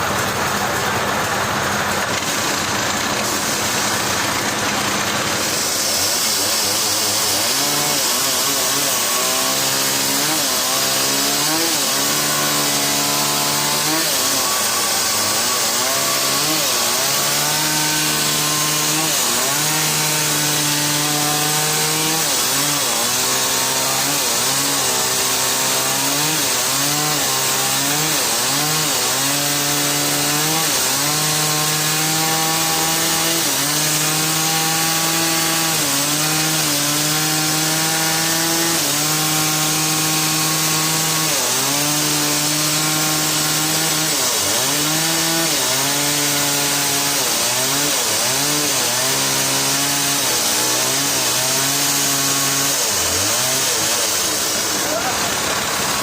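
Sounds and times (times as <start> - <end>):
engine-driven saw engine: 0.0 - 56.0
hiss of sawing: 2.1 - 56.0.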